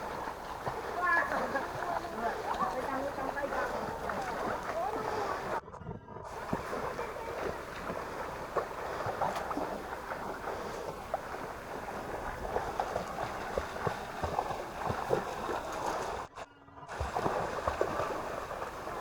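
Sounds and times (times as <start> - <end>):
shallow river splashing: 0.0 - 5.6, 6.3 - 19.0.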